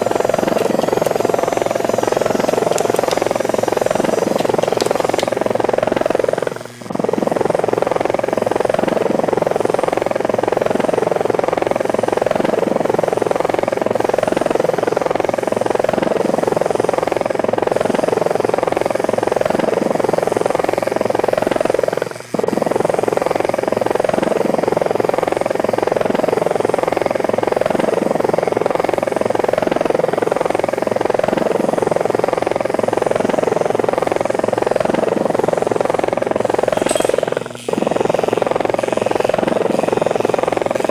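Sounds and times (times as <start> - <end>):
drone rotors buzzing: 0.0 - 40.9.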